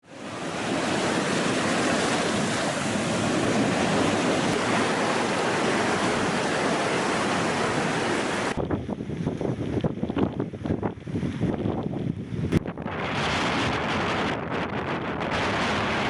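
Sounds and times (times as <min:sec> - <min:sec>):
heavy rain: 0:00.0 - 0:16.0
storm wind: 0:00.0 - 0:16.0.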